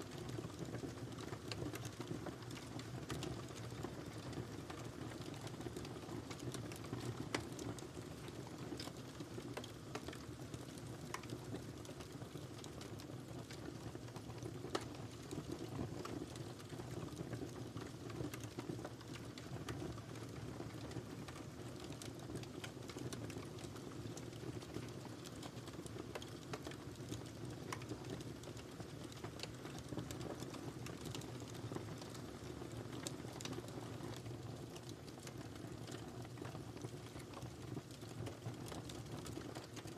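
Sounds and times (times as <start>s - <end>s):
wood fire burning in fireplace: 0.0s - 39.9s.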